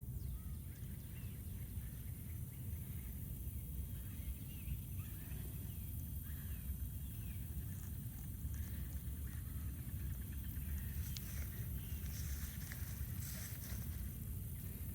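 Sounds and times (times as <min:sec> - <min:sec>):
songbirds chirping: 0:00.0 - 0:14.9
steady low rumble: 0:00.0 - 0:14.9.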